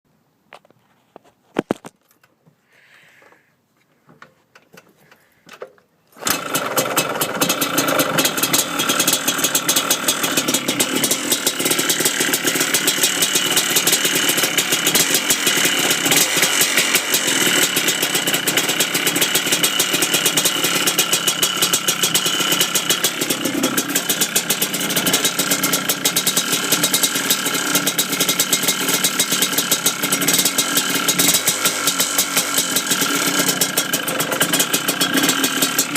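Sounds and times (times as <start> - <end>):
two-stroke engine running with knocking: 6.2 - 35.9.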